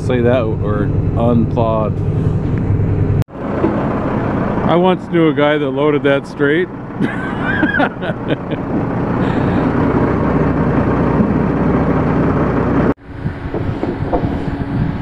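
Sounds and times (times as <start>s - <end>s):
log loader diesel engine and hydraulics: 0.0s - 15.0s
low engine hum: 0.0s - 15.0s.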